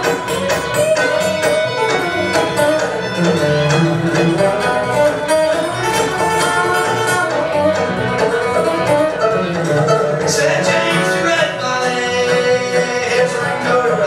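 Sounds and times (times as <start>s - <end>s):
acoustic string band playing: 0.0s - 14.0s.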